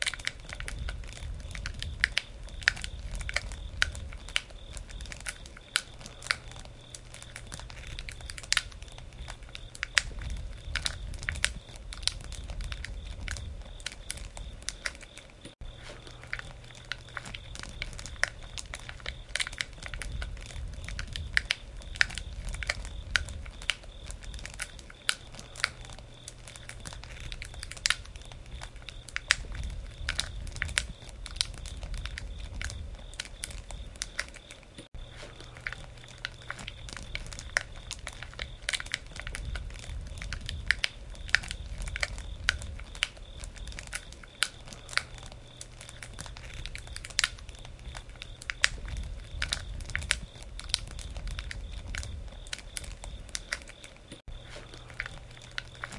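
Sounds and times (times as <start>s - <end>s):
campfire crackling and popping: 0.0s - 55.9s
low rumble of burning fire: 0.0s - 55.9s.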